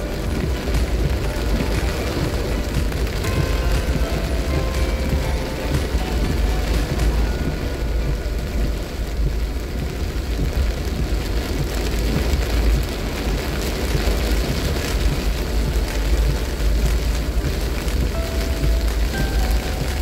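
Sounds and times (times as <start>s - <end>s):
rain and tyre spray hiss: 0.0s - 20.0s
road noise rumble: 0.0s - 20.0s.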